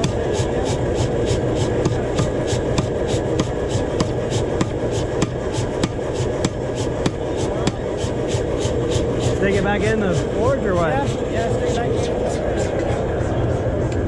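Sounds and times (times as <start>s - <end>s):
hammer striking hot steel: 0.0s - 13.0s.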